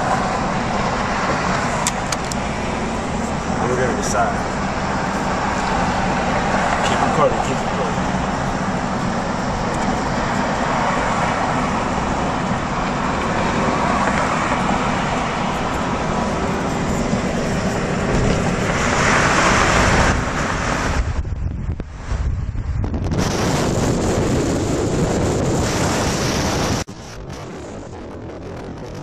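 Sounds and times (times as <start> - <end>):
car road and tyre noise: 0.0 - 29.0.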